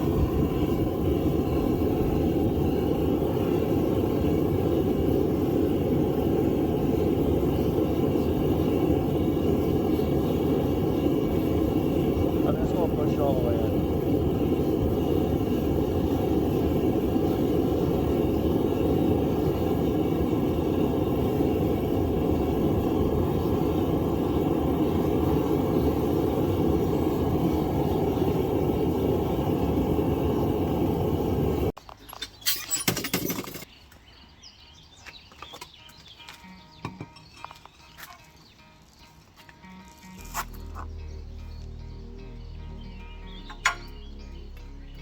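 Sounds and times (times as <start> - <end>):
gas burner roaring: 0.0 - 31.8, 40.2 - 45.0.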